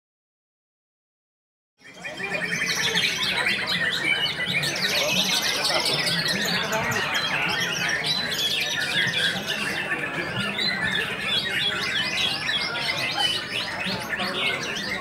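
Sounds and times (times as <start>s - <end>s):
bird singing chirps and warbles: 1.8s - 15.0s
chorus of songbirds: 1.8s - 15.0s.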